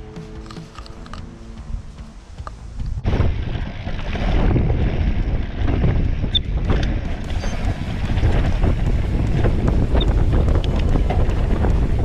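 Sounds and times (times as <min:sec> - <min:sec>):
tyre and trail rumble: 0:00.0 - 0:12.0
wind buffeting microphone: 0:01.0 - 0:12.0.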